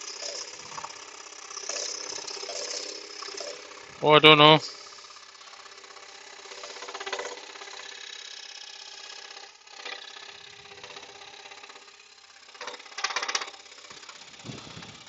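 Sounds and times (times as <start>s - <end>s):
scroll saw cutting wood: 0.0s - 15.0s.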